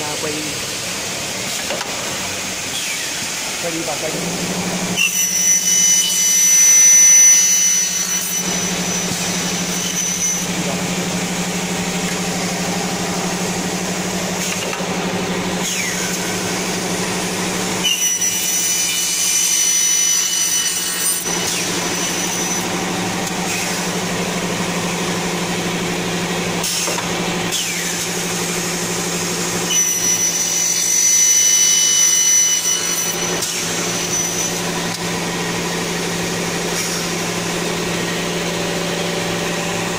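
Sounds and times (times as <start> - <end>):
saw motor humming: 0.0 - 39.9
saw cutting metal with high ring: 2.7 - 39.9.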